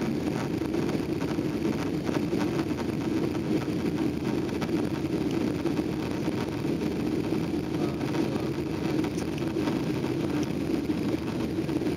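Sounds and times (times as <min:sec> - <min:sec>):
jet engine cabin drone: 0:00.0 - 0:11.9.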